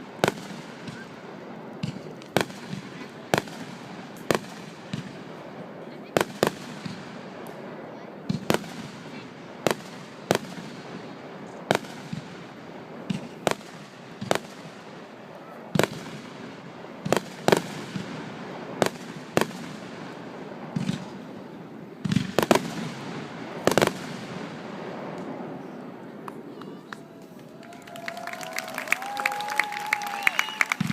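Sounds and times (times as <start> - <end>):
fireworks bursting: 0.0 - 30.9.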